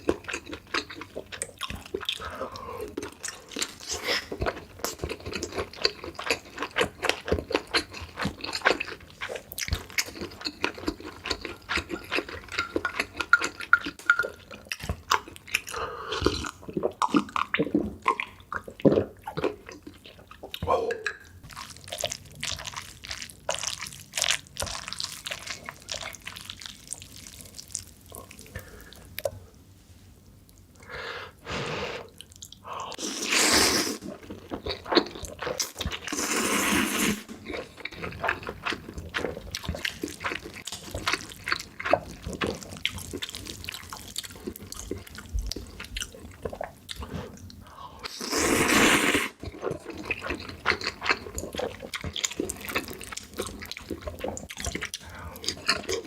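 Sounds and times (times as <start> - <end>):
chewing with mouth clicks: 0.0 - 29.4, 34.1 - 36.4, 37.3 - 47.6, 49.4 - 56.0.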